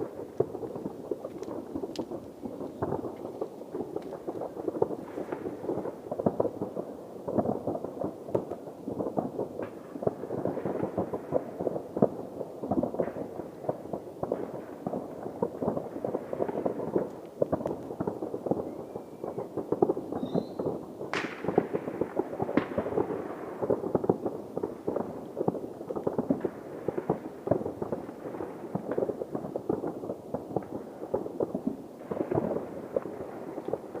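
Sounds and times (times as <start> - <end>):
fireworks bangs and crackling: 0.0 - 34.0
loud firework crack: 0.0 - 34.0.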